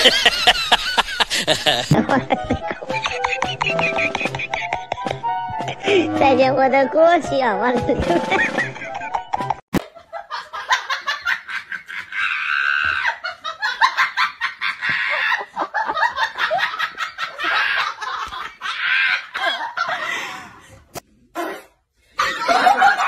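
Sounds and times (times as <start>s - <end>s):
people laughing: 0.0s - 6.0s, 8.2s - 20.5s, 22.2s - 23.0s.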